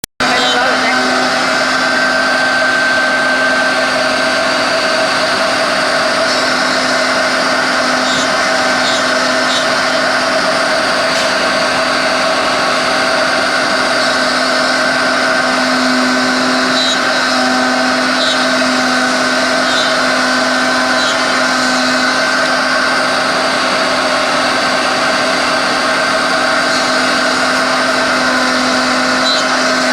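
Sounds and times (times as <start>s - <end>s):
cnc router whining: 0.0s - 29.9s.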